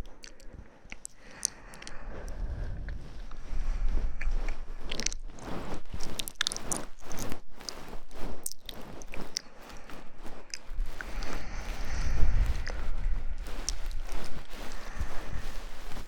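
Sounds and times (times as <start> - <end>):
scratchy rustling: 2.0 - 16.0.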